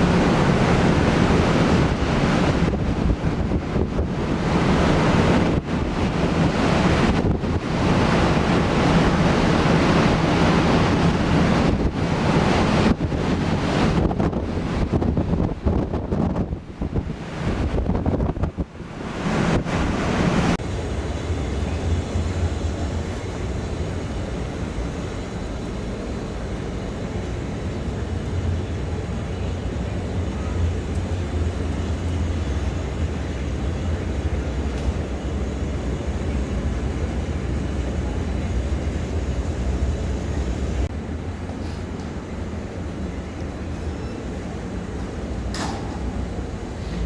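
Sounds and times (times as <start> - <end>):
ship engines rumbling: 0.0 - 47.0.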